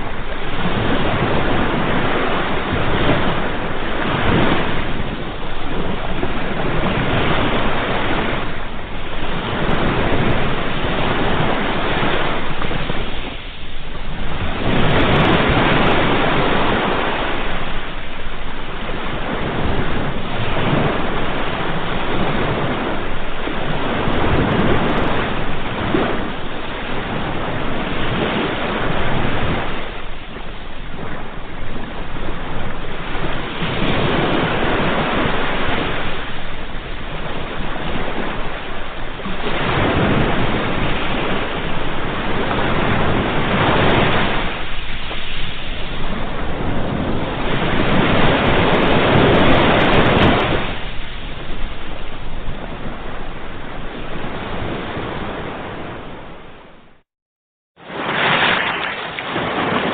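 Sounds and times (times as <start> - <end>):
ocean waves breaking on shore: 0.0 - 57.0, 57.8 - 59.9.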